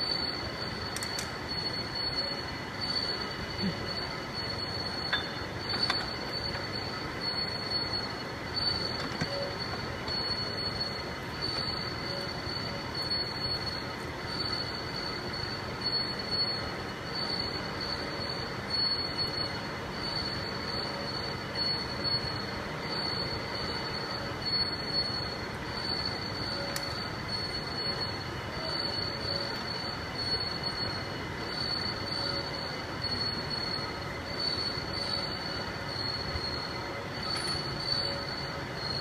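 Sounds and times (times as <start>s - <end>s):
router spindle whine: 0.0s - 39.0s.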